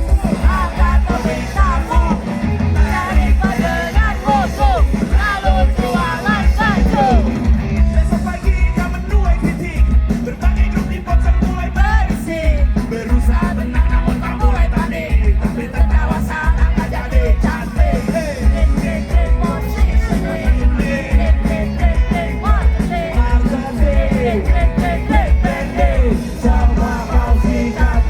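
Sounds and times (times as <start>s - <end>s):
loud rock music with singing: 0.0s - 28.0s.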